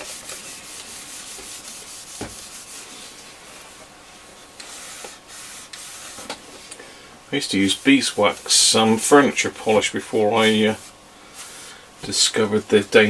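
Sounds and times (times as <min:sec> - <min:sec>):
cloth rag scrubbing wood: 0:00.0 - 0:03.8, 0:04.6 - 0:06.7, 0:07.3 - 0:12.8.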